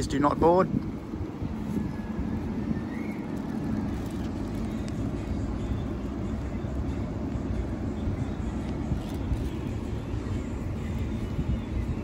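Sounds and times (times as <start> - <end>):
tram humming and rumbling: 0.0 - 12.0.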